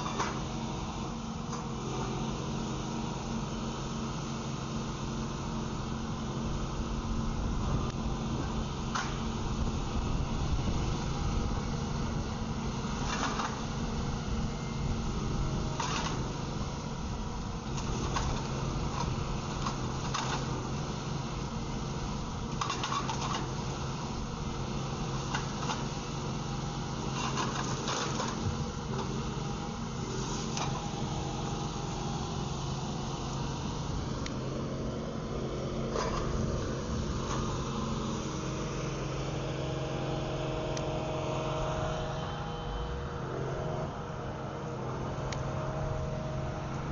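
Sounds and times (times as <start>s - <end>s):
machinery humming: 0.0s - 46.9s.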